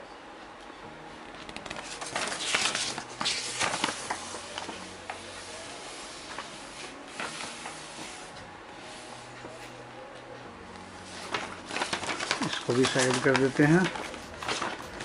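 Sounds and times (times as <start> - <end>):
paper leaflet rustling: 1.2 - 9.8, 10.7 - 15.0.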